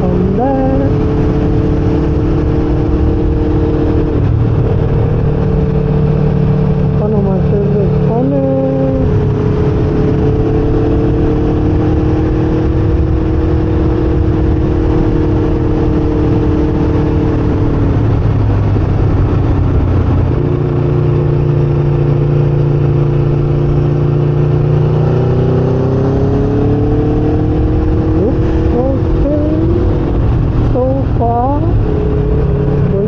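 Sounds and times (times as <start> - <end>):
motorcycle engine running: 0.0 - 33.0
wind rush on microphone: 0.0 - 33.0.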